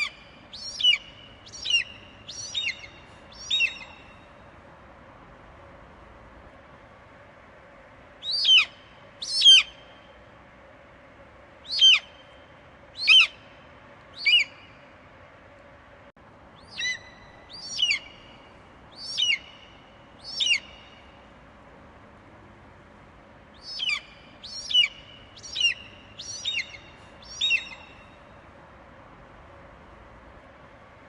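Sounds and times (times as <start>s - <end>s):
faint background noise: 0.0s - 31.0s.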